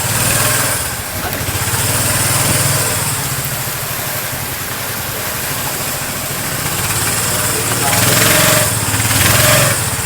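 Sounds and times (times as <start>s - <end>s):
constant hiss: 0.0s - 10.0s
small boat engine running: 0.0s - 10.0s.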